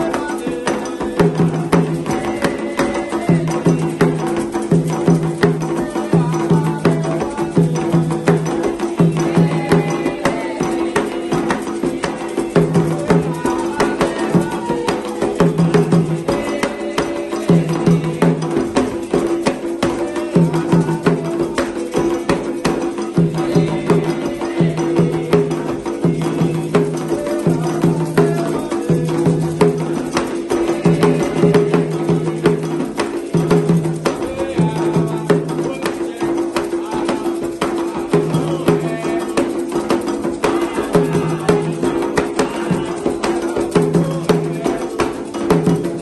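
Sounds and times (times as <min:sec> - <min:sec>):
percussion drums in repeating rhythm: 0:00.0 - 0:46.0.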